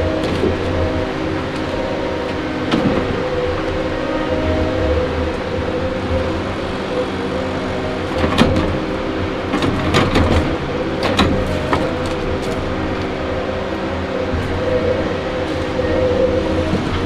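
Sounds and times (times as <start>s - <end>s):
heavy diesel truck engine: 0.0s - 17.0s.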